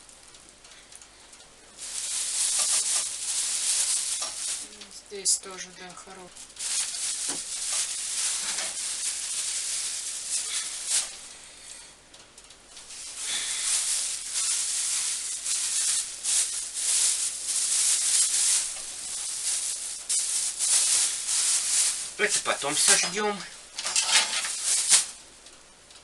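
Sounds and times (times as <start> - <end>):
meat sizzling on a grill: 0.0 - 12.0, 12.7 - 25.2
small crackles: 0.0 - 26.0.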